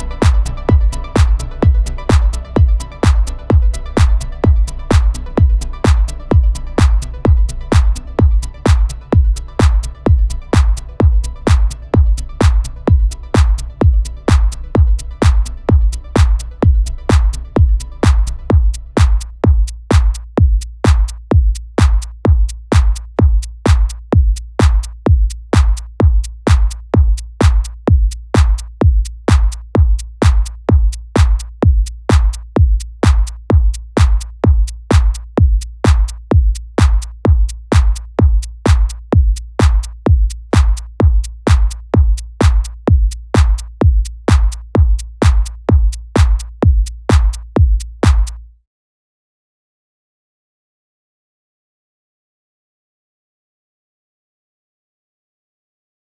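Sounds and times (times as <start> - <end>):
kick drum beat: 0.0 - 48.4
deep bass: 0.0 - 48.5.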